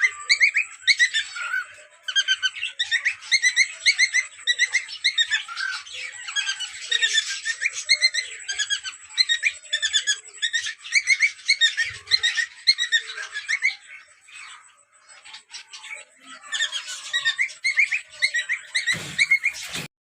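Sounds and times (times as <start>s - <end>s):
cockatiels chirping and whistling: 0.0s - 19.9s.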